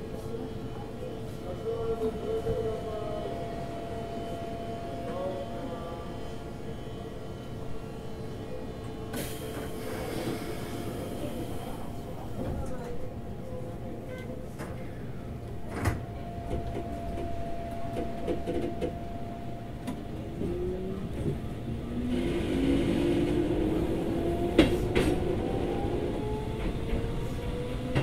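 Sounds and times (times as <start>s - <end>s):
train running hum: 0.0s - 28.0s.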